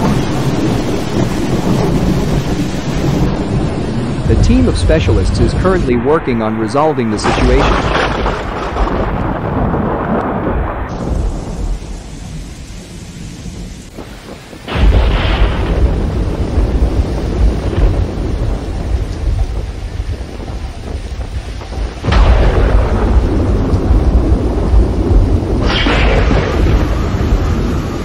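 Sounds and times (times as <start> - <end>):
gusting wind: 0.0 - 28.0
heavy rain: 0.0 - 28.0
low storm rumble: 0.0 - 28.0.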